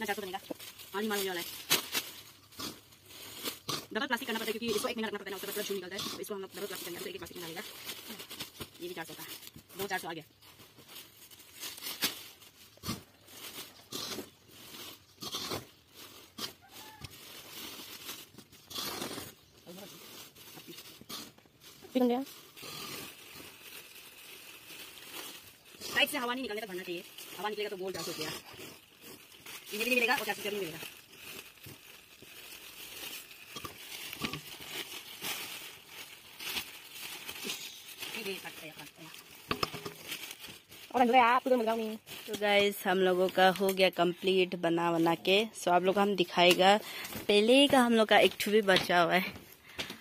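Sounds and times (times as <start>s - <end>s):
plastic bags rustling: 0.0s - 50.0s.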